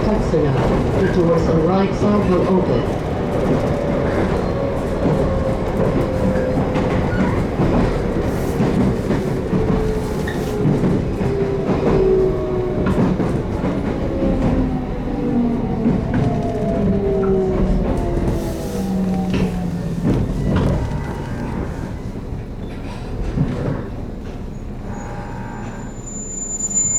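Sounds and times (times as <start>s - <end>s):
rail-joint clicks: 0.0s - 14.8s, 15.6s - 25.0s
train wheels rumbling on rail: 0.0s - 26.9s.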